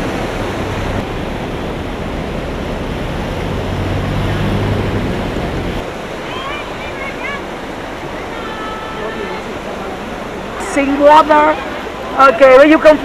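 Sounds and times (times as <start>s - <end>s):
floodwater rushing: 0.0s - 13.0s
vehicle engine humming: 0.0s - 13.0s.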